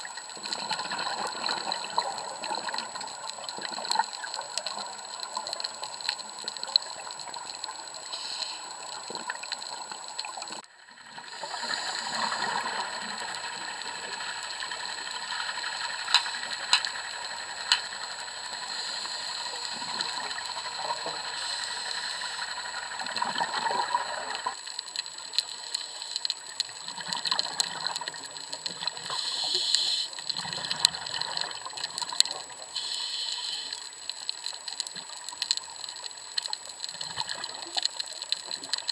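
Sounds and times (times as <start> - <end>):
crackle of sharp clicks: 0.0 - 10.7, 11.4 - 38.9
regulator bubbles gushing: 0.0 - 29.6, 30.2 - 32.9, 33.9 - 38.9.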